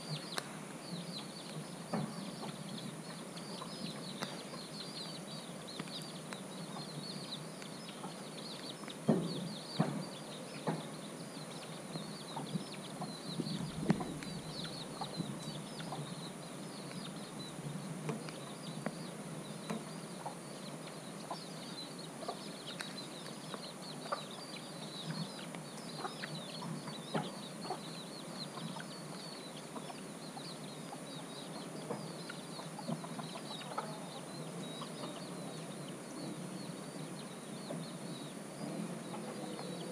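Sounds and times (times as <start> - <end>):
high chirping: 0.0 - 17.6, 18.2 - 39.9.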